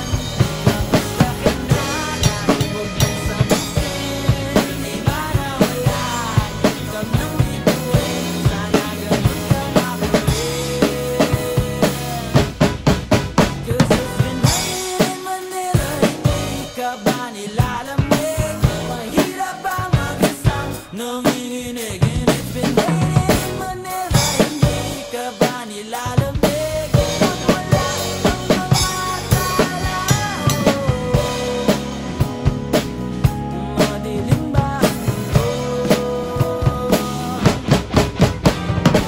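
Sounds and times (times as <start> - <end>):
acoustic drum kit: 0.0 - 39.0
recorded pop band track: 0.0 - 39.0.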